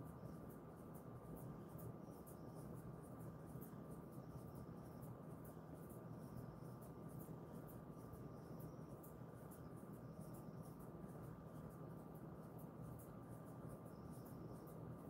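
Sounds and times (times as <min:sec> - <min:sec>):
faint steady whine: 0:00.0 - 0:15.0
low background hum: 0:00.0 - 0:15.0.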